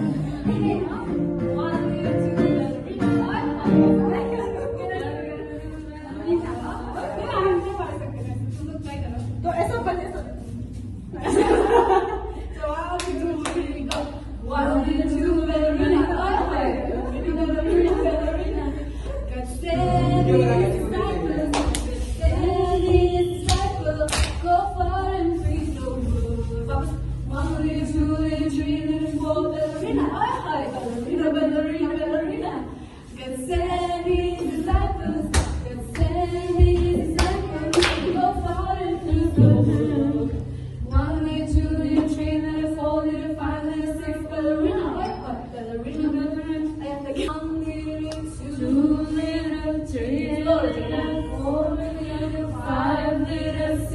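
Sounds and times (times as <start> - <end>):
voices singing without instruments: 0.0 - 53.9.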